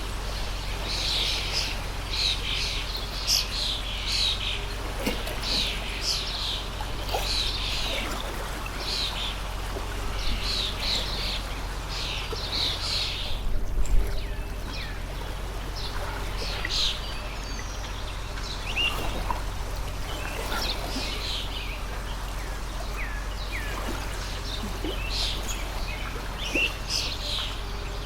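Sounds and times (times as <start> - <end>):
birds chirping: 0.0 - 28.0
water stream flowing: 0.0 - 28.0.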